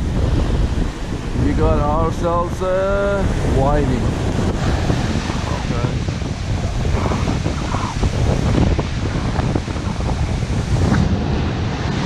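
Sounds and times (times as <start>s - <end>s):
surf washing up beach: 0.0s - 12.0s
wind buffeting microphone: 0.0s - 12.0s.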